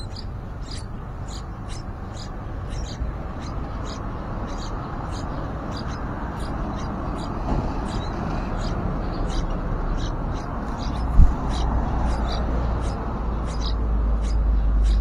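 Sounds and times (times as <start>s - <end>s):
nestling birds cheeping: 0.0s - 15.0s
low rushing noise: 1.6s - 14.6s.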